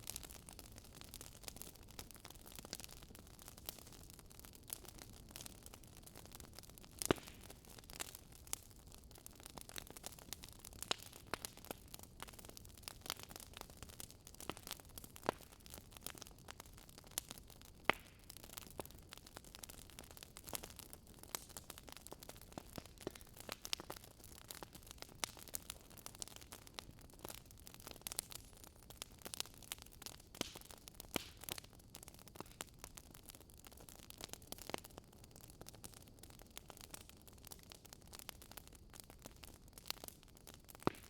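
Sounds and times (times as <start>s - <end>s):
log fire crackling and popping: 0.0s - 41.0s.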